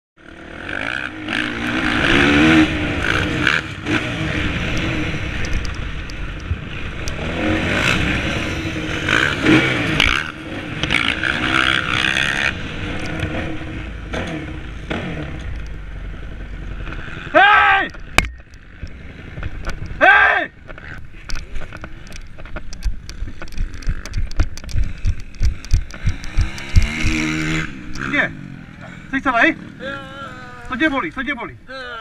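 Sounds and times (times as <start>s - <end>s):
motocross bike engine revving: 0.2s - 31.2s
wind and track noise: 0.2s - 31.7s.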